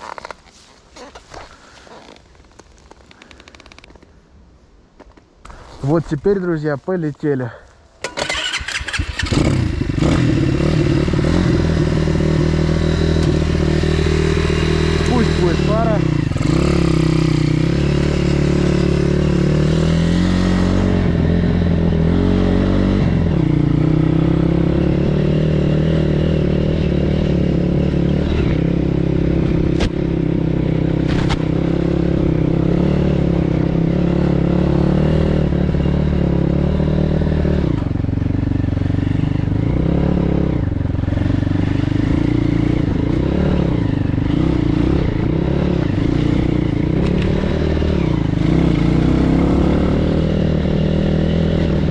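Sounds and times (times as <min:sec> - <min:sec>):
pit bike engine revving: 0:08.0 - 0:51.9.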